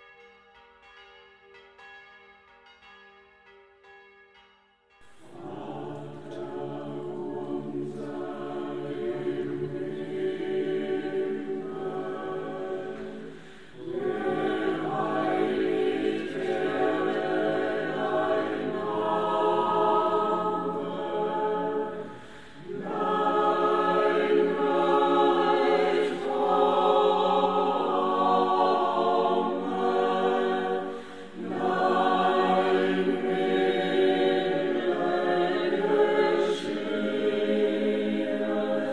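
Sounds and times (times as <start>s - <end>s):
choir singing unaccompanied: 5.2s - 38.9s.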